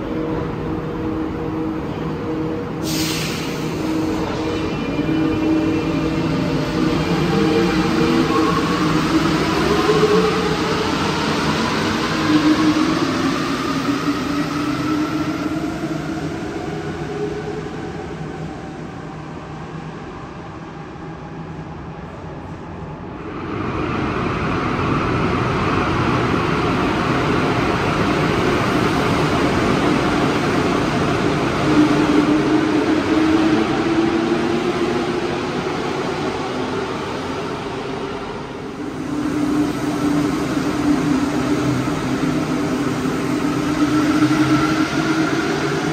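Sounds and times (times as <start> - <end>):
train rolling noise: 0.0 - 45.9.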